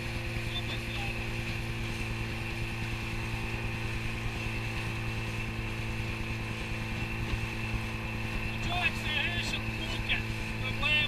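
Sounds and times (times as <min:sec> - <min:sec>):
outboard motor running: 0:00.0 - 0:11.0
water rushing along hull: 0:00.0 - 0:11.0.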